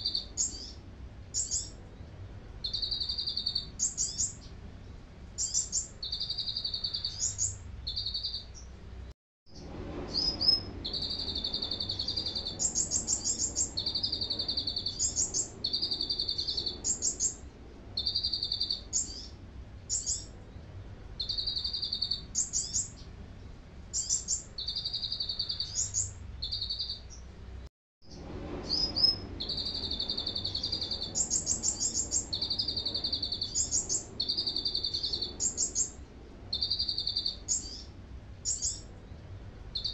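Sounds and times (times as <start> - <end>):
bird singing fast trills: 0.0 - 2.0, 2.6 - 4.5, 5.4 - 8.8, 10.1 - 17.4, 18.0 - 20.3, 21.2 - 23.0, 23.9 - 27.3, 28.7 - 38.9.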